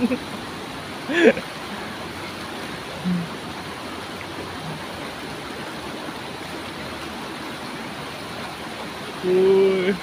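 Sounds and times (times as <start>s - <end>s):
river flowing over rocks: 0.0s - 10.0s.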